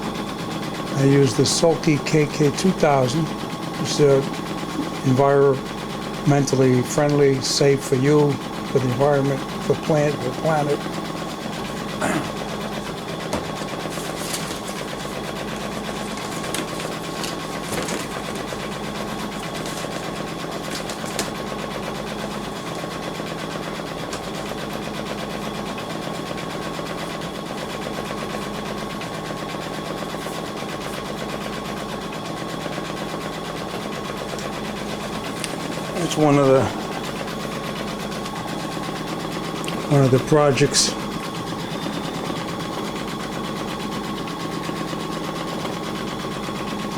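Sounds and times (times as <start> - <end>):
embroidery machine stitching: 0.0 - 46.9.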